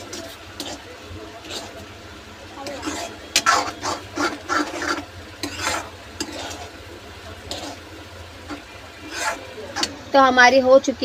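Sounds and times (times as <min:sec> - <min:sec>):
spatula scraping metal pan: 0:00.0 - 0:10.0.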